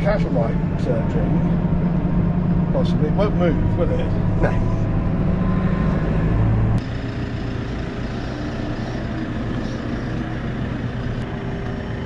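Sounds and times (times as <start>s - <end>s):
farm machinery engine running: 0.0s - 12.0s.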